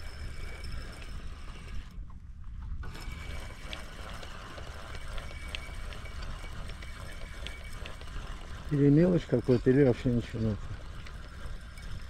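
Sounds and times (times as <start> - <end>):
fishing reel cranking: 0.0 - 2.0, 2.8 - 12.0
low steady rumble: 0.0 - 12.0.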